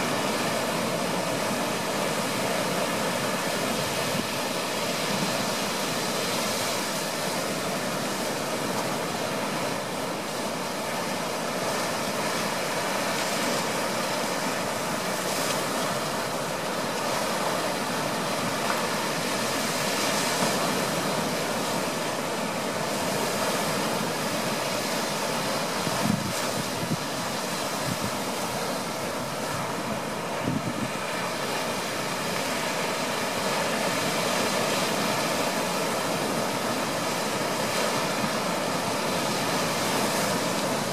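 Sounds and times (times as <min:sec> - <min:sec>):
waves breaking on shore: 0:00.0 - 0:40.9.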